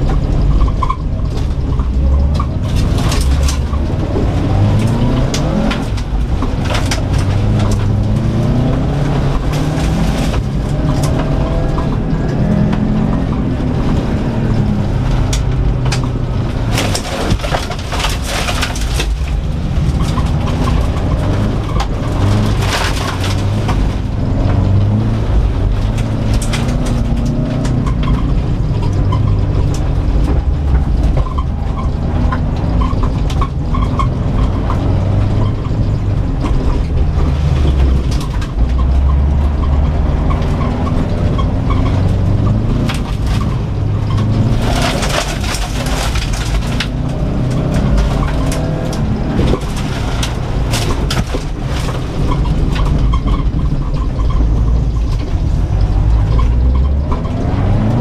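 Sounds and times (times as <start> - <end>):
car engine revving: 0.0 - 58.0
gravel rattling against underbody: 0.0 - 58.0.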